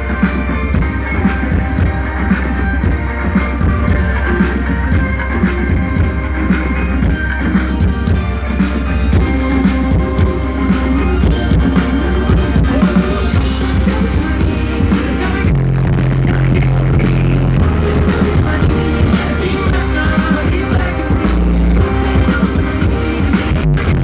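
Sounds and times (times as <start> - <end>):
live indie rock band: 0.0 - 24.0.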